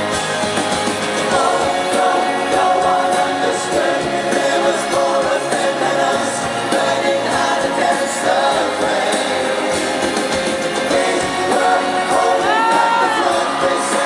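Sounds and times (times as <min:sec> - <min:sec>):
live pop-rock band: 0:00.0 - 0:14.0
person singing: 0:01.2 - 0:14.0.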